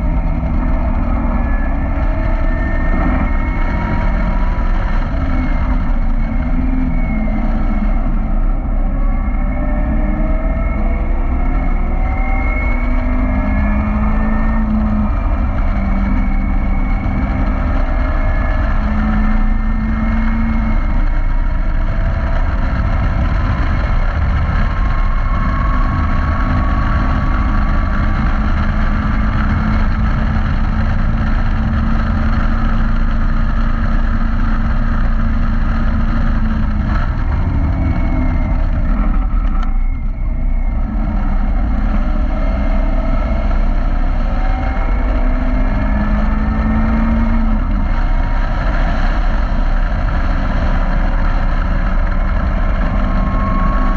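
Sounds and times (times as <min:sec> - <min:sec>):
sports car engine at high revs: 0:00.0 - 0:53.9.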